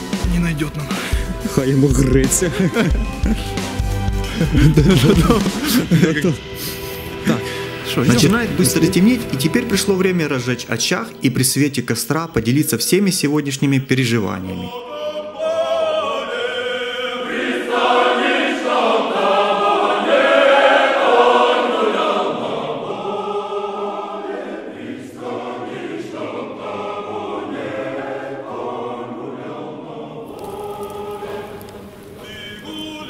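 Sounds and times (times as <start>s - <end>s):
choir singing folk song: 0.8s - 12.5s, 13.3s - 33.0s.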